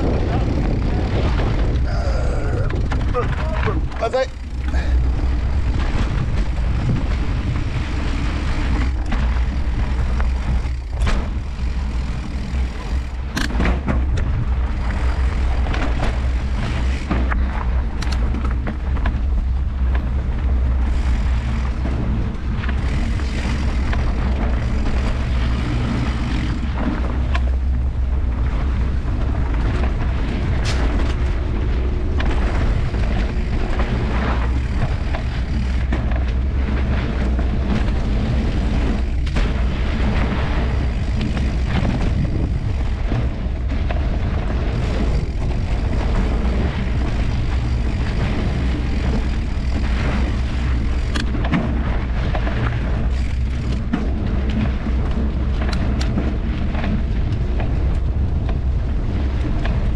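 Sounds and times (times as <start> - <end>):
bike knocks and rattles: 0.0 - 59.9
wind rumble on microphone: 0.0 - 59.9.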